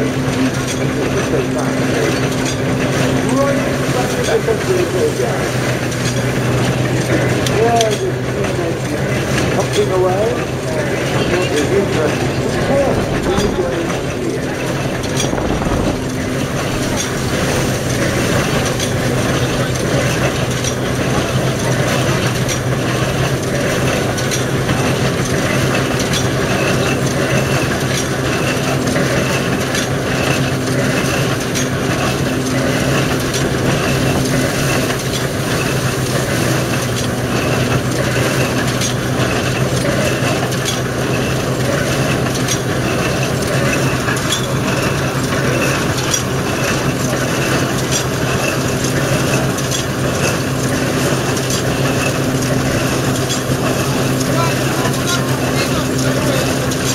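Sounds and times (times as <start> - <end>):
threshing machine and baler running: 0.0 - 56.9.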